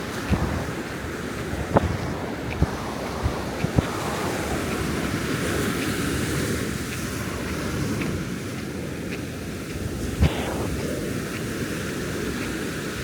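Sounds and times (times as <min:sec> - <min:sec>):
ocean surf washing onto beach: 0:00.0 - 0:13.0
wind on microphone: 0:00.0 - 0:13.0.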